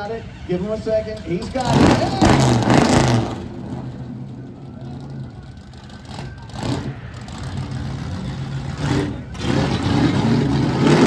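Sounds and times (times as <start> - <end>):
truck engine revving: 1.2 - 11.0.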